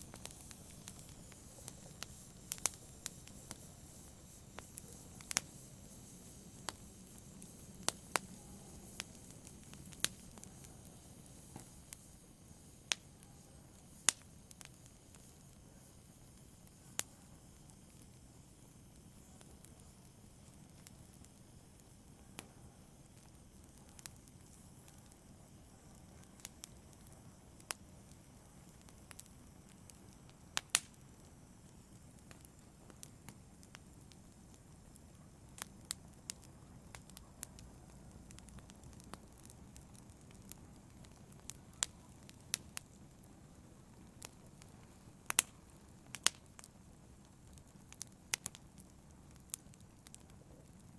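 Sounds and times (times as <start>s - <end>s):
faint steady hiss: 0.0s - 50.9s
fire crackling and popping: 0.0s - 50.9s.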